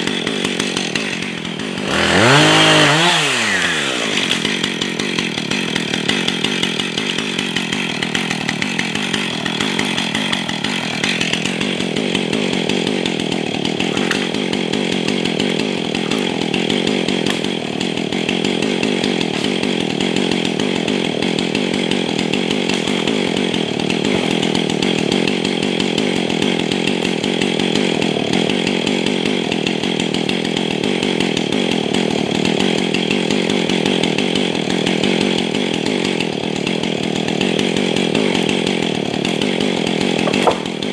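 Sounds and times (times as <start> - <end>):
chainsaw cutting small trees: 0.0 - 40.9.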